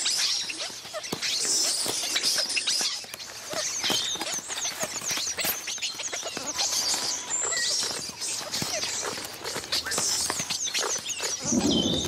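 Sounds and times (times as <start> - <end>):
monkeys squeaking and chirping: 0.0 - 12.0
dry leaves crackling and rustling: 0.1 - 12.0.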